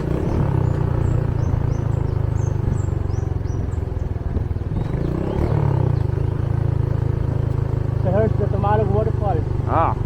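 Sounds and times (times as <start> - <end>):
small motorcycle engine running: 0.0 - 10.0.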